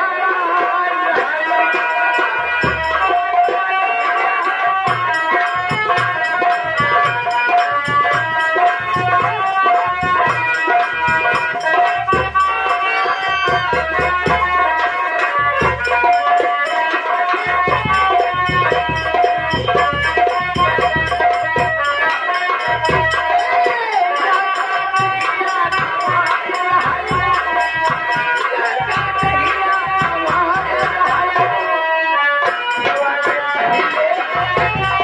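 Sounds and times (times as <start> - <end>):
hand drums beating: 0.6 - 31.8, 32.4 - 35.0
sustained melody: 1.2 - 35.0.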